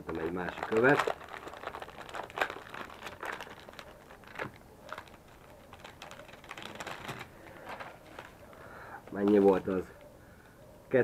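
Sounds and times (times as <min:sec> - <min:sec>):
plastic bag crinkling: 0:00.1 - 0:09.9.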